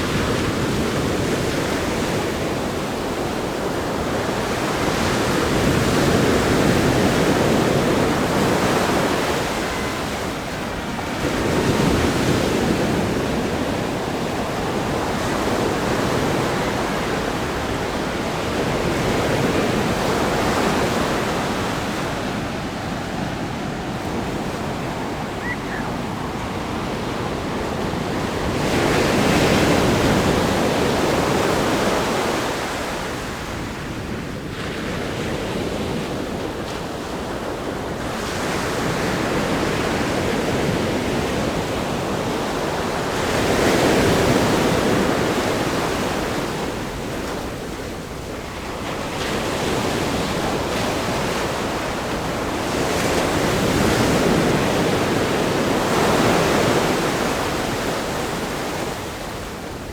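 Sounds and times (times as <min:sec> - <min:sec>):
ocean surf breaking on shore: 0:00.0 - 0:59.9.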